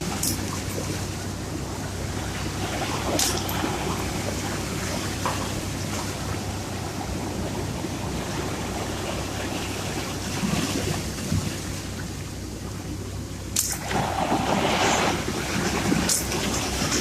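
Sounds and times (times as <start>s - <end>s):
sea waves rushing: 0.0s - 17.0s.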